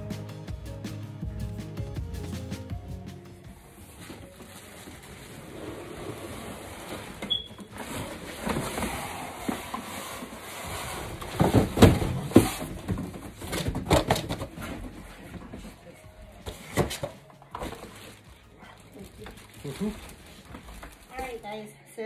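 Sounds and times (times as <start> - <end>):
cardboard and plastic rustling: 3.6 - 21.6.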